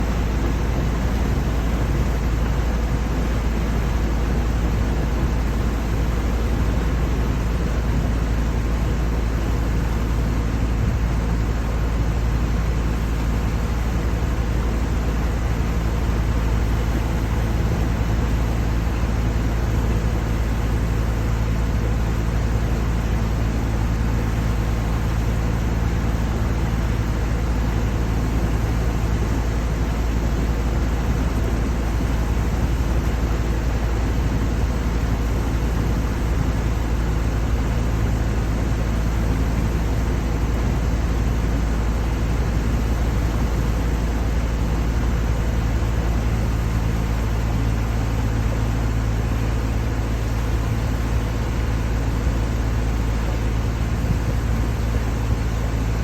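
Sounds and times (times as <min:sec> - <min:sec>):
low motor hum: 0:00.0 - 0:56.0.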